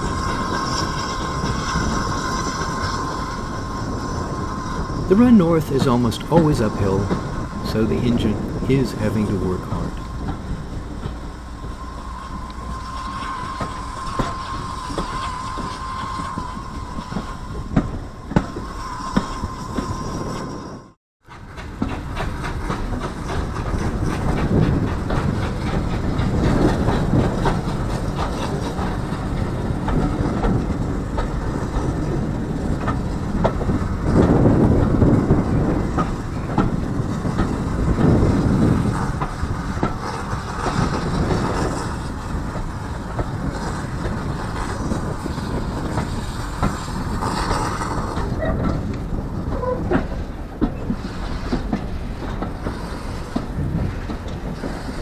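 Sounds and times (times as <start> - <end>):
steam train rumble: 0.0 - 55.0
wheels clattering over rail joints: 9.6 - 55.0.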